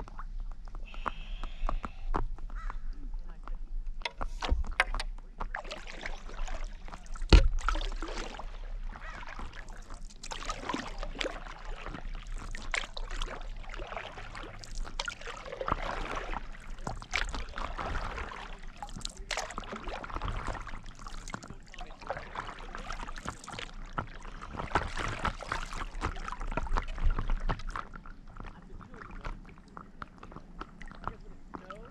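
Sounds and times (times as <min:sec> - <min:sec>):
water lapping against board: 0:03.9 - 0:31.9
paddle splashing in water: 0:04.0 - 0:31.9.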